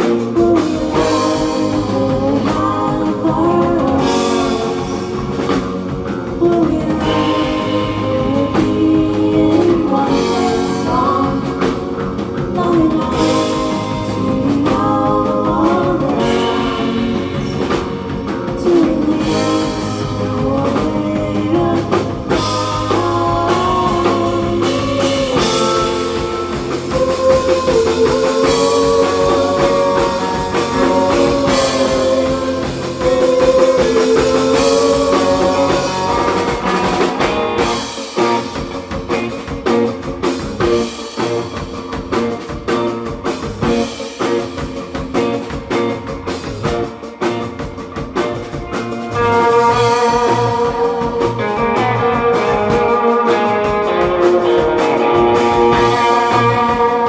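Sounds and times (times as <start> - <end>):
bass guitar: 0.0 - 57.0
drum kit: 0.0 - 57.0
electric guitar melody: 0.0 - 57.0.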